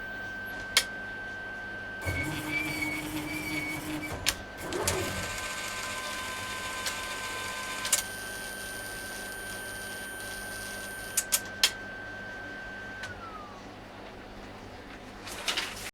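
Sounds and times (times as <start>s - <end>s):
printer whine and hiss: 0.0s - 13.9s.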